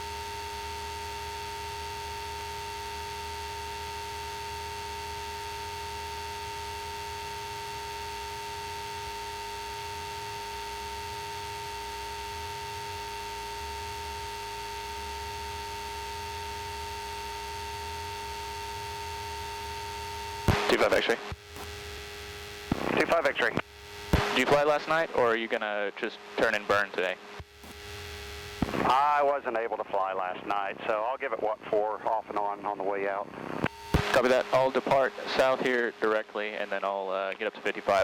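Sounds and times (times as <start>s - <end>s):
two-pitch electronic whine: 0.0s - 38.0s.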